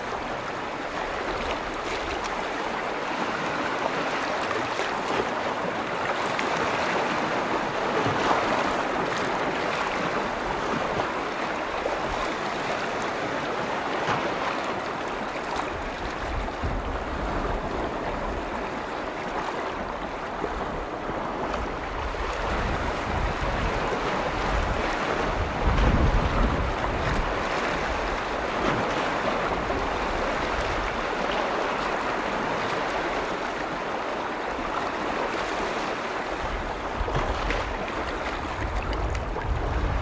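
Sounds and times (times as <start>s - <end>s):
small waves lapping on shore: 0.0s - 40.0s
wind rumble on microphone: 0.0s - 40.0s.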